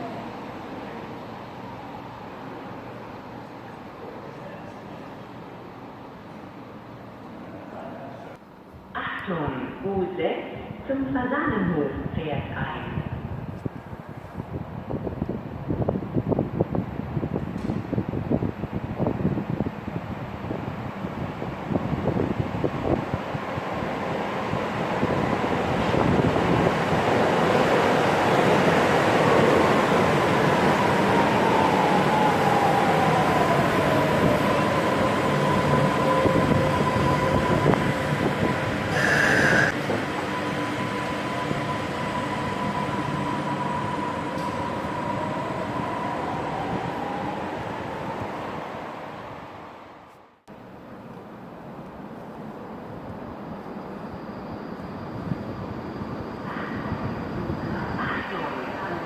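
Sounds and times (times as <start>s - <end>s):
light-rail train electric whine: 0.0s - 59.0s.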